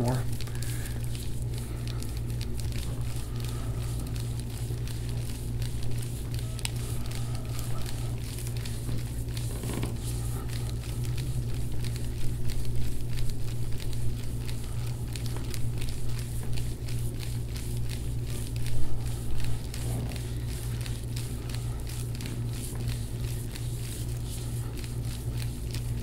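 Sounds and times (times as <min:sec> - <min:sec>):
steady low hum: 0:00.0 - 0:26.0
tissue clicks and crackles: 0:00.0 - 0:26.0.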